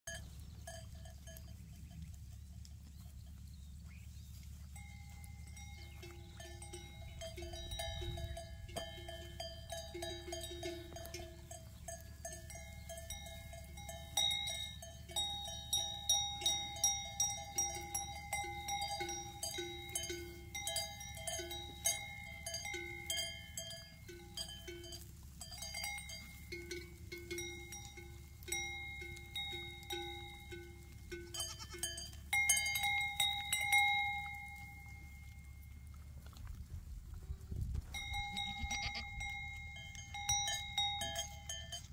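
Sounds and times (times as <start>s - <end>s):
goat neck bells clanking: 0.0s - 36.4s, 37.8s - 41.9s.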